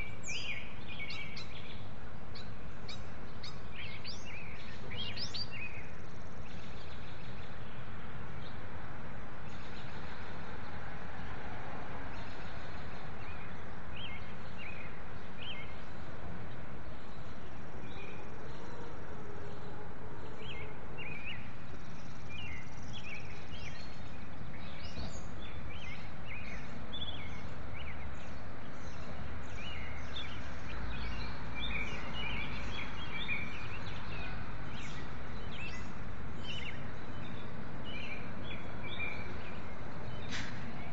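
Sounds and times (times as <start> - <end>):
sparrows chirping: 0.0 - 11.4, 12.0 - 40.9
street noise: 0.0 - 40.9.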